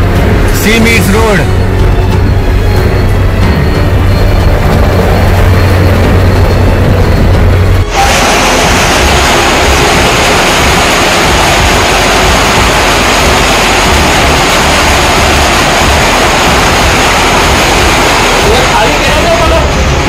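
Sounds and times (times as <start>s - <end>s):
floodwater rushing: 3.9s - 20.0s.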